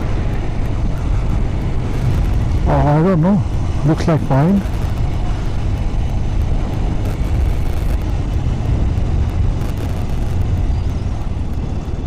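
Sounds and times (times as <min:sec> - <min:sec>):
motorcycle engine and road rumble: 0:00.0 - 0:12.0
wind buffeting microphone: 0:00.0 - 0:12.0.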